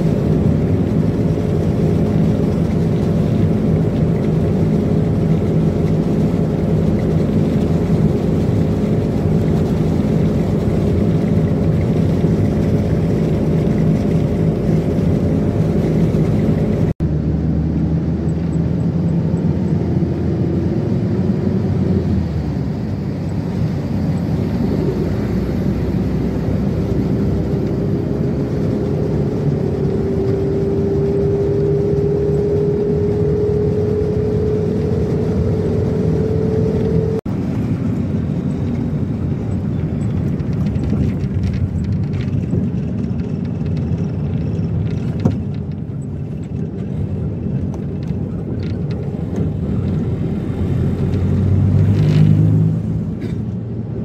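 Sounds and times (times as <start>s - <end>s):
rising whine: 0.0s - 54.0s
vehicle running rumble: 0.0s - 54.0s.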